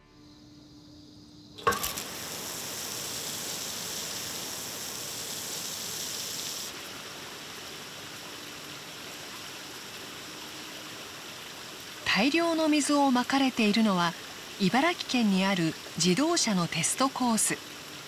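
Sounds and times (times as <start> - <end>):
water jets spraying: 1.6 - 18.0.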